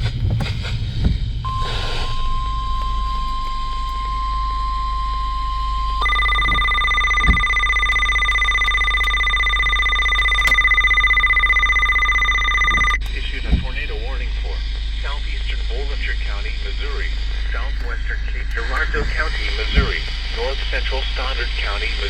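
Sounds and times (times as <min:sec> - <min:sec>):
steady warning tone: 0:00.0 - 0:22.0.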